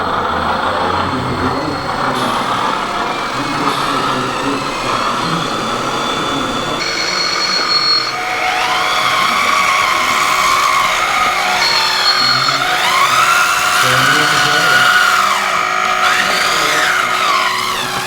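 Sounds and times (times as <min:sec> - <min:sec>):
electric motors whining: 0:00.0 - 0:18.0
steady mechanical hiss: 0:00.0 - 0:18.0.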